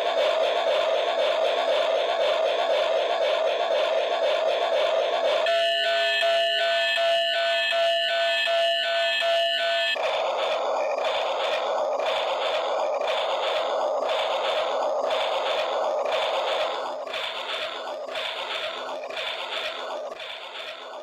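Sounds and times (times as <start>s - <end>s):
toy train whirring and rattling: 0.0s - 21.0s.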